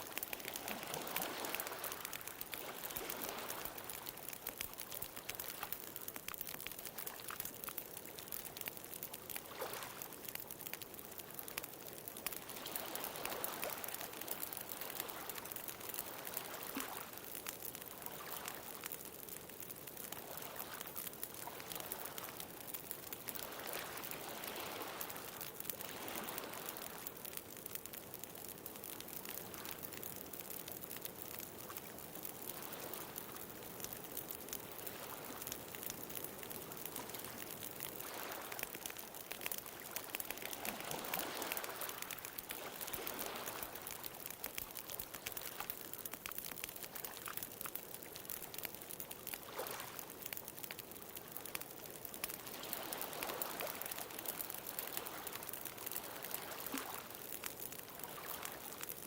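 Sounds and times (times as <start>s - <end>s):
bonfire crackling: 0.0s - 59.0s.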